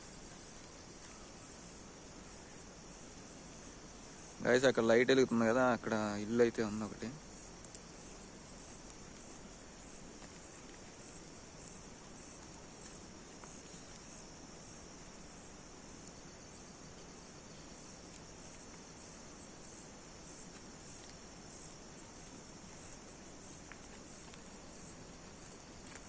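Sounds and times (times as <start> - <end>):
crickets chirping: 0.0 - 26.0
low background hiss: 0.0 - 26.0.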